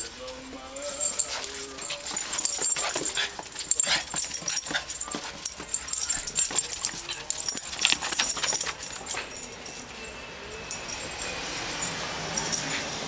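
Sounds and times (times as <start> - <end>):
dogs scuffling and scratching: 0.0 - 13.0.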